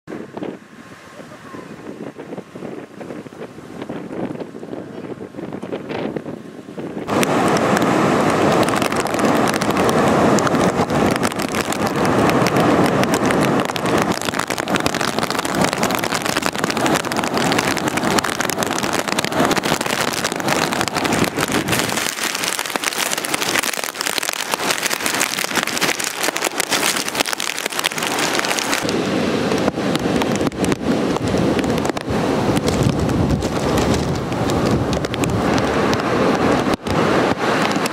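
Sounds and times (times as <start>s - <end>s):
wind blowing across microphone: 0.0s - 37.9s
heavy surf breaking: 0.1s - 37.9s.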